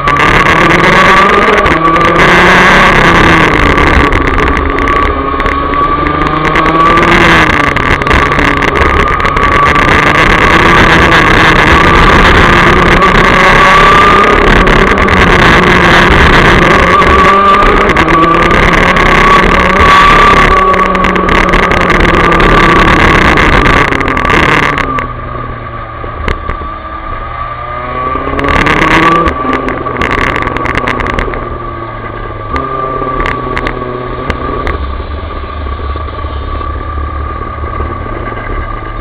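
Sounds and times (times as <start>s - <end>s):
kart engine at racing speed: 0.0s - 39.0s.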